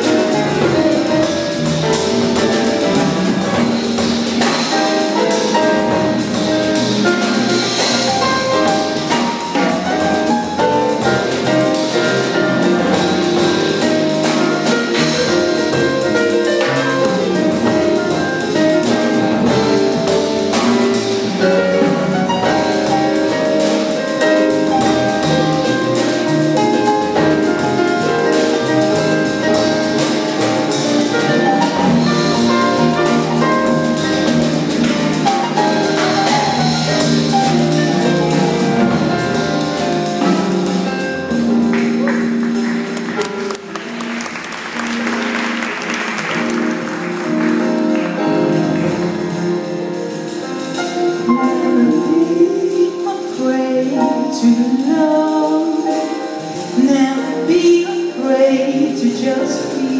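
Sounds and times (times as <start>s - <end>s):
double bass: 0.0s - 59.9s
drum kit with cymbals: 0.0s - 59.9s
piano: 0.0s - 59.9s.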